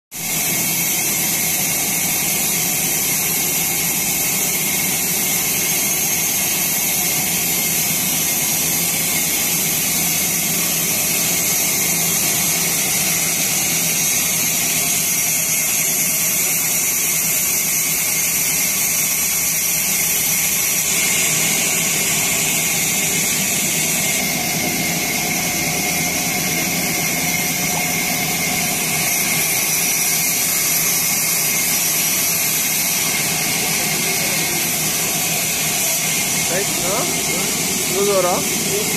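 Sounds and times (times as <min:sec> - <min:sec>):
sawmill machinery running: 0:00.2 - 0:38.9.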